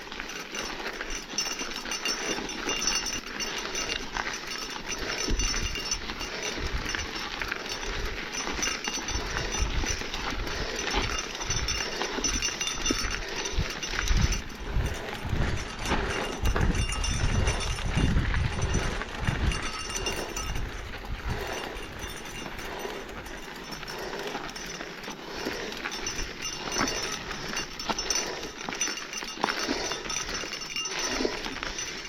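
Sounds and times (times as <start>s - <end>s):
bike tyre and trail noise: 0.0s - 32.0s
person breathing hard: 0.2s - 17.8s, 18.5s - 32.0s.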